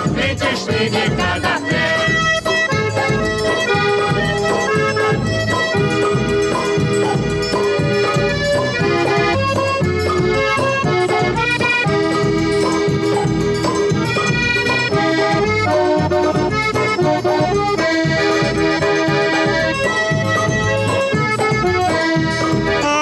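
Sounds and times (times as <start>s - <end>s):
accordion melody: 0.0s - 23.0s
rhythm section beat: 0.0s - 23.0s.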